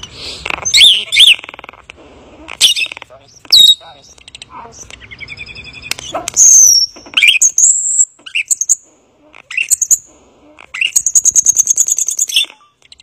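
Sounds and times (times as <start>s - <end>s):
starling singing: 0.0s - 13.0s.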